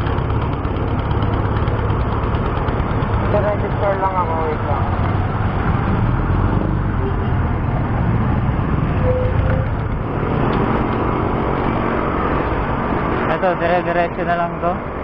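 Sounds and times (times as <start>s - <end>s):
road traffic: 0.0s - 15.0s
vehicle engine running close: 0.0s - 15.0s.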